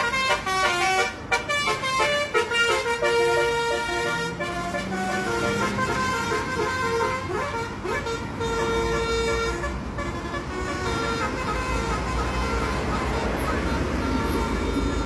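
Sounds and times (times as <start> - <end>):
bus engine rumbling: 0.0 - 15.0
musical air horn playing a tune: 0.0 - 15.0.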